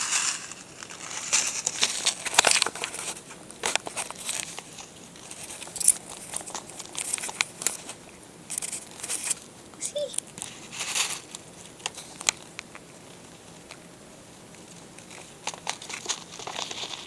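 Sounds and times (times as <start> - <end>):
paper bag crinkling: 0.0 - 12.6, 14.8 - 17.0.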